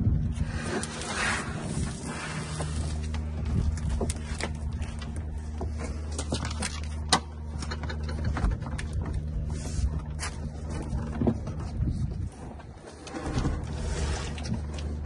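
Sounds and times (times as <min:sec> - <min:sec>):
steady low hum: 0:00.0 - 0:15.0
hull knocking and scraping deck: 0:00.3 - 0:15.0.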